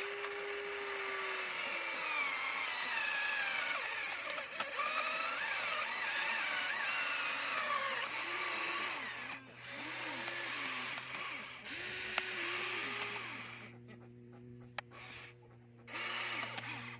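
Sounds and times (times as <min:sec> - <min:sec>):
toy excavator motors whining: 0:00.0 - 0:16.9.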